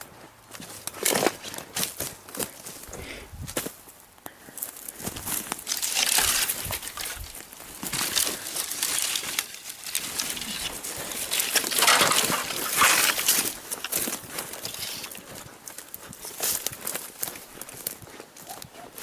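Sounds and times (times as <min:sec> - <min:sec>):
dry brush rustling and crackling: 0:00.0 - 0:19.0.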